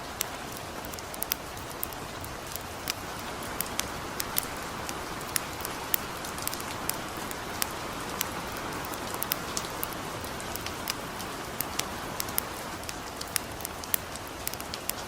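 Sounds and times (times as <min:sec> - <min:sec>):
campfire crackling and popping: 0:00.0 - 0:15.0
light rain hissing: 0:00.0 - 0:15.0.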